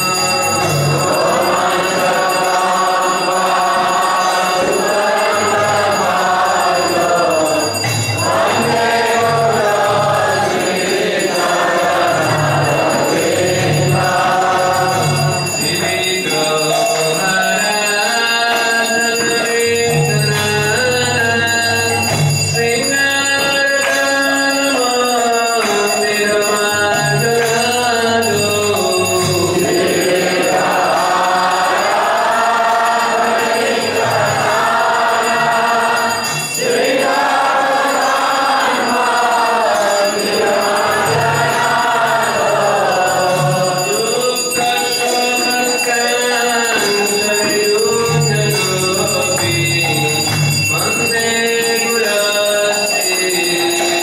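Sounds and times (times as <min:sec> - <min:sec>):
group of voices singing: 0:00.0 - 0:54.0
jingling hand cymbals: 0:00.0 - 0:54.0
steady ringing tone: 0:00.0 - 0:54.0.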